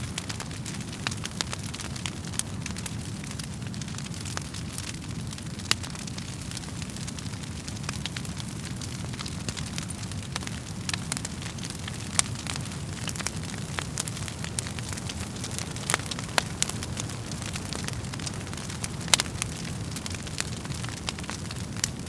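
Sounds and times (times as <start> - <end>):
burning logs crackling and popping: 0.0 - 22.0
fire flames rumbling: 0.0 - 22.0.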